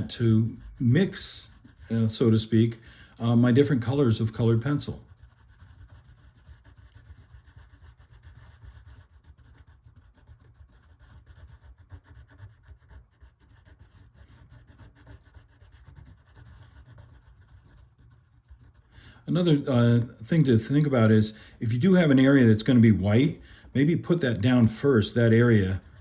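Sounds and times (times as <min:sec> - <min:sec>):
colored pencil scratching on board: 0:00.0 - 0:26.0.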